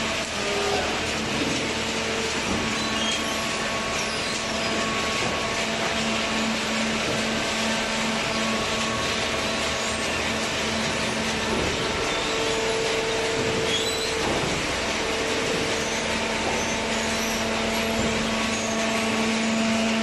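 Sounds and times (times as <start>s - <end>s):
hydraulic baler running: 0.0s - 20.0s
low motor and pump hum: 0.0s - 20.0s.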